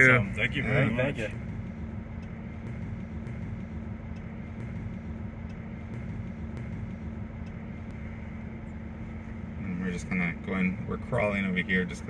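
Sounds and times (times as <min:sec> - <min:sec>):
steady low cabin hum: 0:00.0 - 0:12.0.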